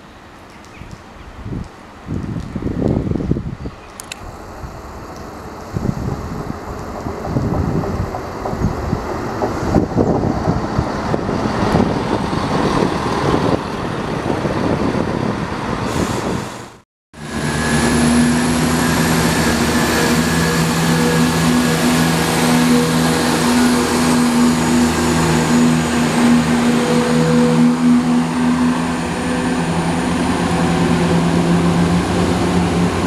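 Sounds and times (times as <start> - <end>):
train rumbling past: 4.2 - 33.0.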